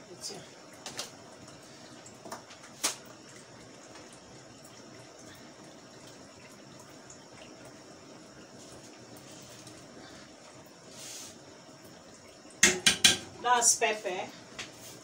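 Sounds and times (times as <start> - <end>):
soup simmering hiss: 0.0 - 15.0.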